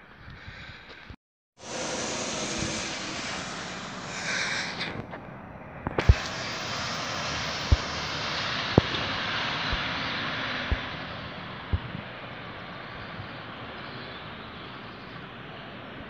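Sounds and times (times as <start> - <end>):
car road and tyre noise: 0.0 - 16.0.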